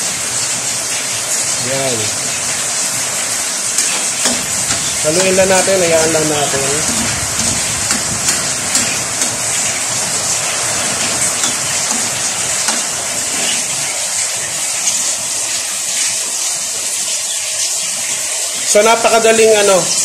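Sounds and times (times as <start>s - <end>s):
heavy rain hissing: 0.0s - 20.0s
vegetables sizzling in a frying pan: 0.0s - 20.0s.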